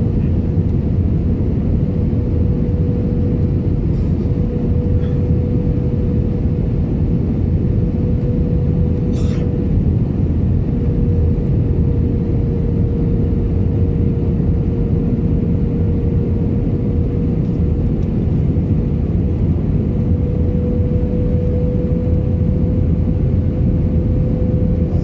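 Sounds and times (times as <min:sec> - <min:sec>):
airliner cabin engine rumble: 0:00.0 - 0:25.0
constant hum: 0:00.0 - 0:25.0.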